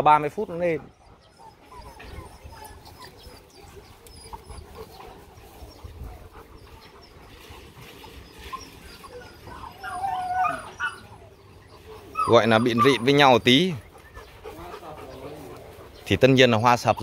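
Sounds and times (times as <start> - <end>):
dog whimpering: 0.8 - 16.0.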